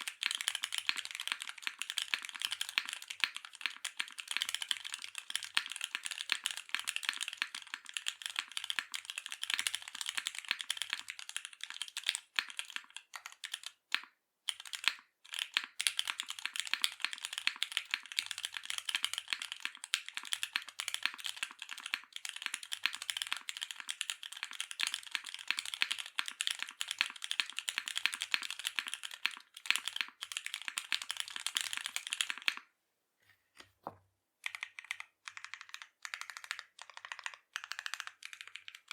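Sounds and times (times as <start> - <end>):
mechanical keyboard typing: 0.0 - 32.7, 34.4 - 38.9.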